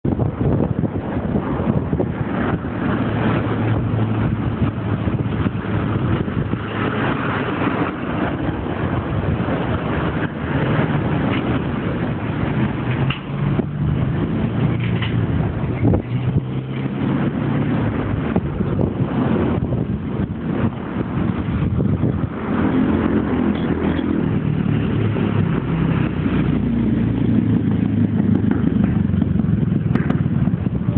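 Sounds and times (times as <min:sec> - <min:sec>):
low engine hum: 0:00.0 - 0:30.9
passing cars: 0:00.0 - 0:30.9
tyres on road: 0:00.0 - 0:30.9.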